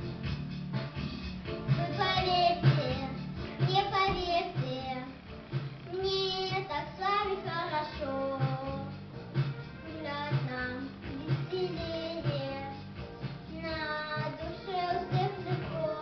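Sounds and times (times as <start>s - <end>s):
backing track with steady beat: 0.0s - 16.0s.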